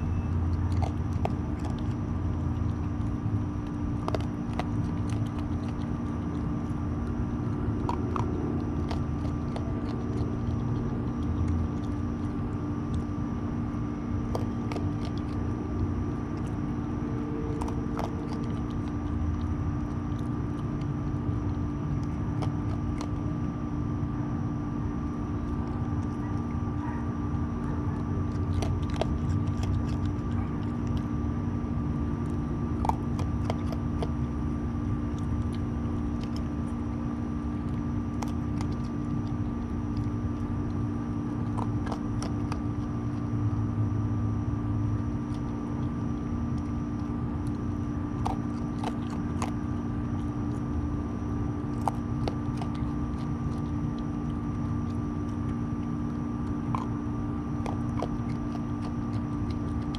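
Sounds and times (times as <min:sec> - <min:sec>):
raccoon crunching dry food: 0:00.0 - 0:59.9
steady mechanical hum: 0:00.0 - 0:59.9.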